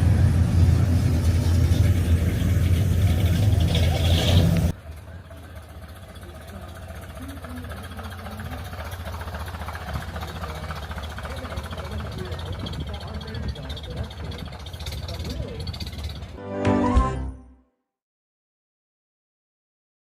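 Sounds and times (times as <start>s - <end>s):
car engine running: 0.0s - 16.4s
faint outdoor background sound: 0.0s - 17.6s.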